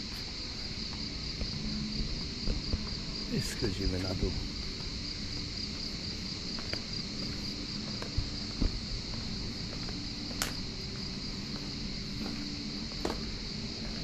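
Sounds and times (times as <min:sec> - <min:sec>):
crickets chirring: 0:00.0 - 0:14.0
low hum: 0:00.0 - 0:14.0.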